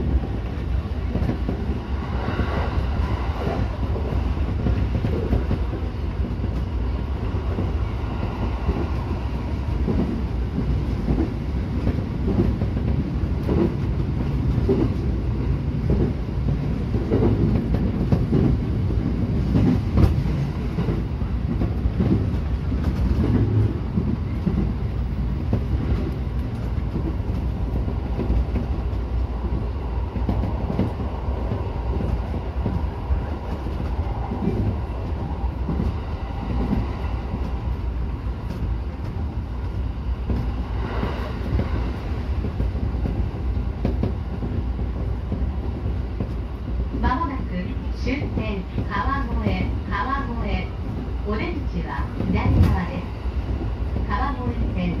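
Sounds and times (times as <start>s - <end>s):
train rumbling running noise: 0.0s - 55.0s.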